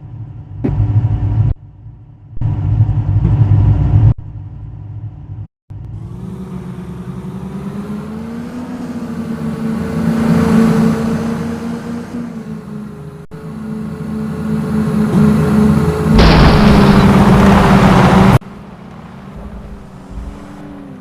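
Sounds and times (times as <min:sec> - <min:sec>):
engine accelerating: 0:02.3 - 0:21.0.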